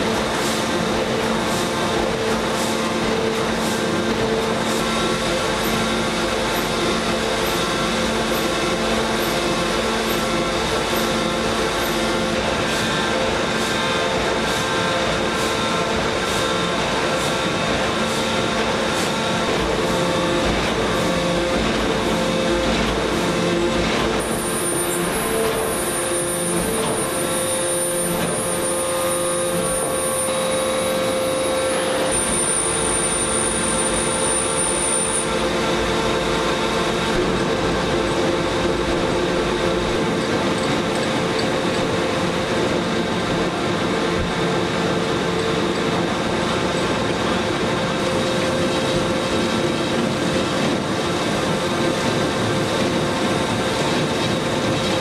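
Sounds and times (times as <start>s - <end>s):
forging machine noise: 0.0s - 55.0s
high whine: 0.0s - 55.0s.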